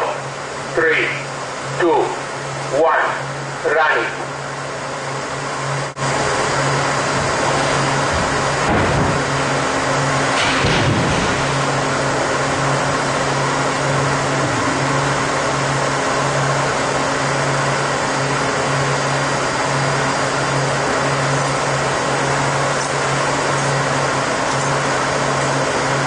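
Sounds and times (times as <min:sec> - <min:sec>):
loud machinery rushing noise: 0:00.0 - 0:26.0
low machinery hum: 0:00.0 - 0:26.0.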